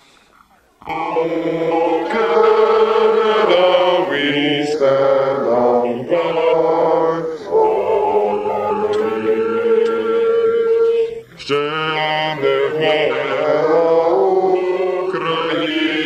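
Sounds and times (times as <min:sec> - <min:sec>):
group chanting slowly: 0:00.7 - 0:16.0.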